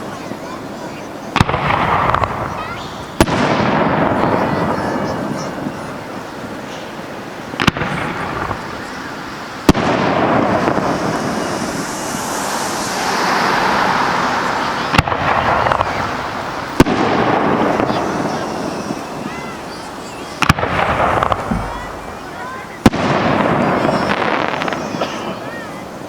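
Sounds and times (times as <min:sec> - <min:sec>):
continuous rushing noise: 0:00.0 - 0:26.0
fireworks bangs: 0:00.0 - 0:26.0.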